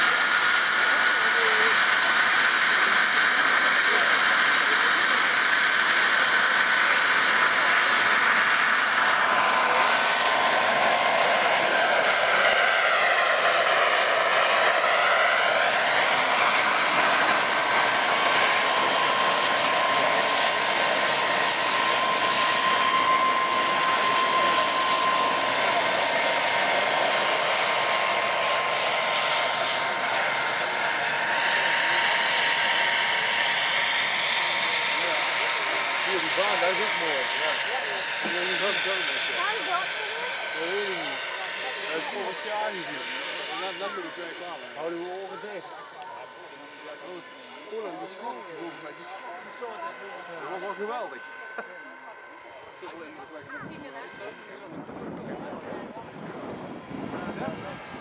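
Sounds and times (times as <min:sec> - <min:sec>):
model helicopter rotor noise: 0:00.0 - 0:58.0
motor whine: 0:00.1 - 0:58.0.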